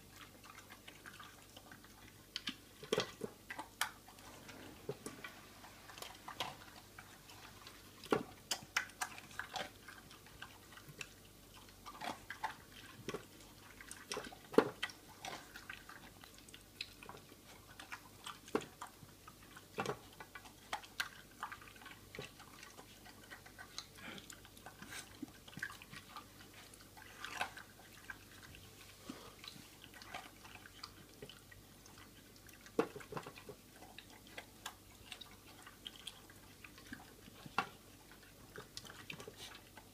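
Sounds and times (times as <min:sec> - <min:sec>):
dog chewing: 0:00.0 - 0:39.9.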